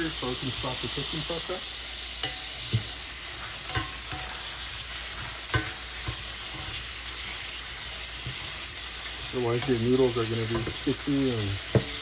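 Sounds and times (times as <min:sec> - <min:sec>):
tap water running over pasta: 0:02.2 - 0:12.0.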